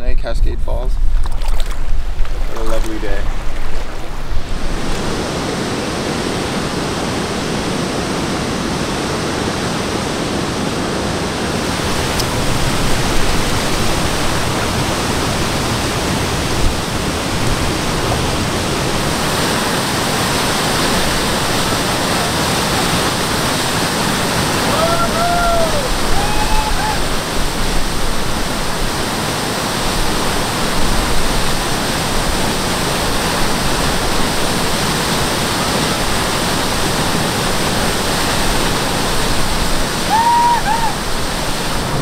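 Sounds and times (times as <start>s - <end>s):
waterfall rushing: 2.4s - 42.0s.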